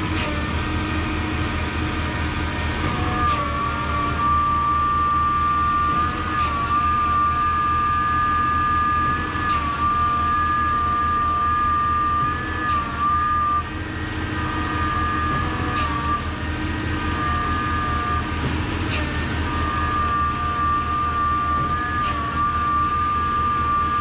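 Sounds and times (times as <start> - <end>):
truck engine drone: 0.0 - 24.0
high whine: 0.9 - 24.0.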